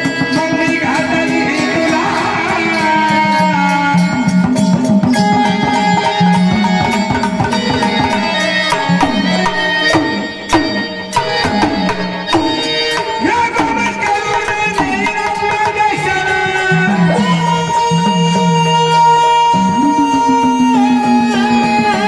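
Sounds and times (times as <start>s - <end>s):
hand drum rhythm: 0.0s - 22.0s.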